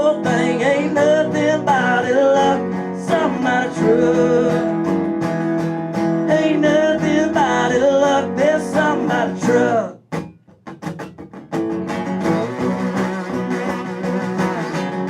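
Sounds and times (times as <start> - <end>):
acoustic guitar country music: 0.0 - 15.0.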